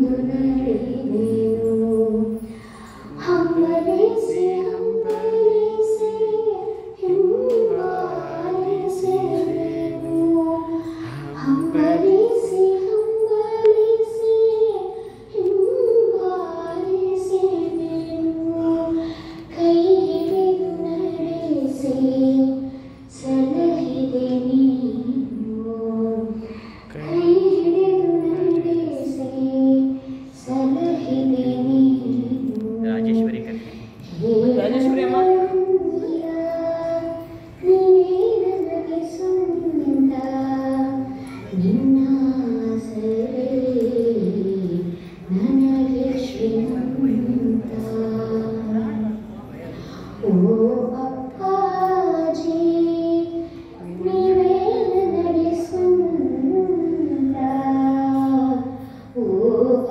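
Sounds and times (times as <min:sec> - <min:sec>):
voices singing devotional song: 0:00.0 - 0:59.9.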